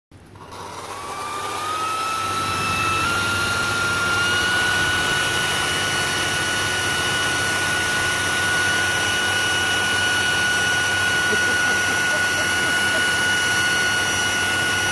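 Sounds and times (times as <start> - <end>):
leaf blower whining: 0.3 - 14.9.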